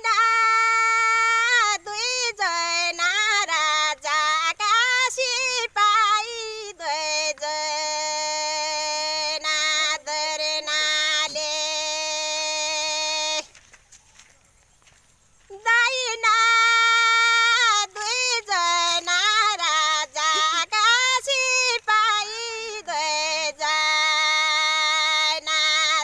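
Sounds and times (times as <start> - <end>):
woman singing unaccompanied: 0.0 - 13.7, 15.4 - 26.0.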